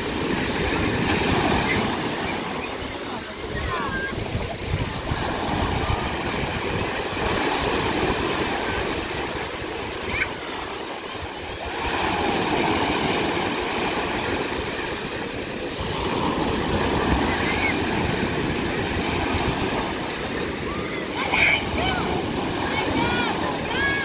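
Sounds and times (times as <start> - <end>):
small waves breaking on shore: 0.0 - 24.0.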